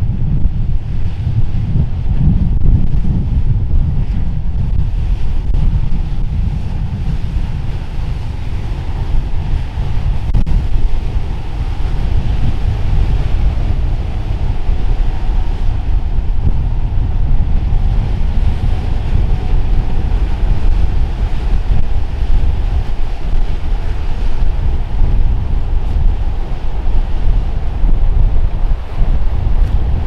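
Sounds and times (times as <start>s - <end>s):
rushing water: 0.0s - 30.0s
wind buffeting microphone: 0.0s - 30.0s
motor yacht passing: 0.1s - 30.0s.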